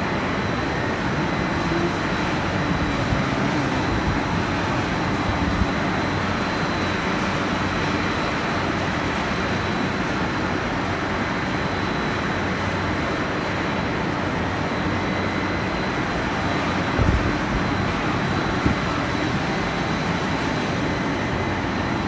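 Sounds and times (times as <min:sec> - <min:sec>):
production line machinery running: 0:00.0 - 0:22.0.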